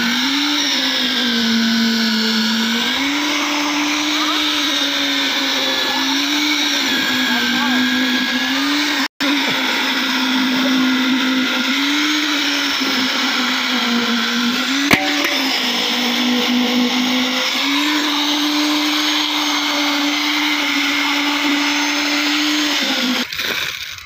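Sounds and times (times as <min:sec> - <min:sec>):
motor whining hum: 0:00.0 - 0:24.0.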